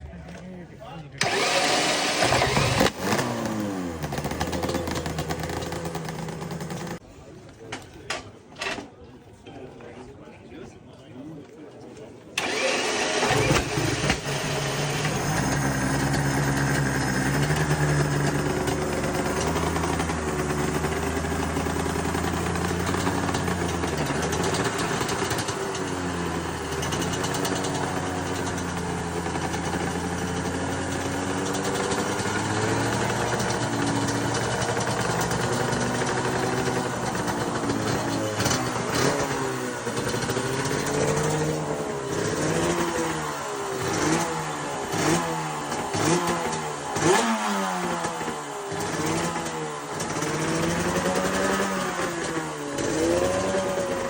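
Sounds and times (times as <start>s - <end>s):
motorcycle engine idling and revving: 1.2s - 7.0s, 12.4s - 54.0s.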